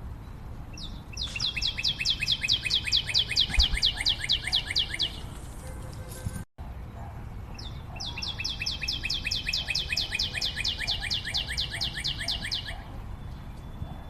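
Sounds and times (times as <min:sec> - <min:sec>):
bird trilling chirps: 0:00.7 - 0:06.2, 0:07.5 - 0:14.0.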